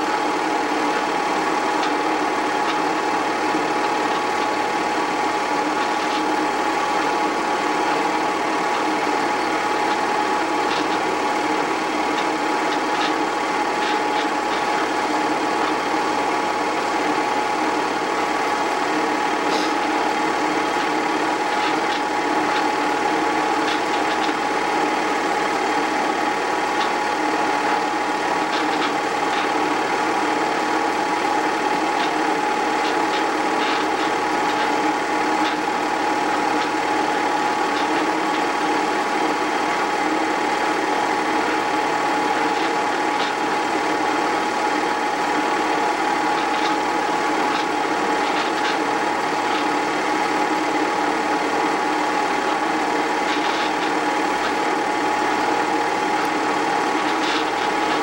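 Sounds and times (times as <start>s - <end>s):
movie projector whirring: 0.0s - 58.0s.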